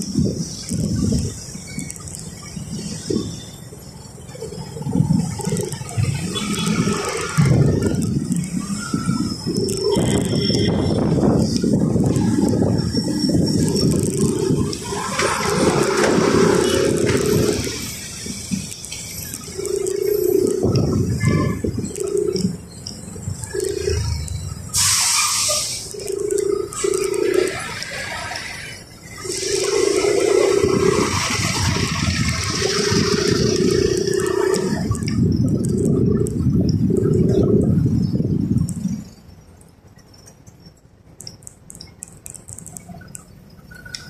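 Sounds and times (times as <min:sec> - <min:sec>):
wind buffeting microphone: 0:00.0 - 0:24.8, 0:25.9 - 0:39.6
street traffic: 0:00.0 - 0:44.0.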